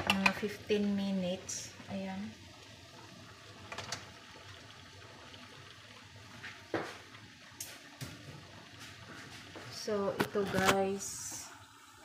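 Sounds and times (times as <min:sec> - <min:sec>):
water boiling and bubbling: 0:00.0 - 0:12.0.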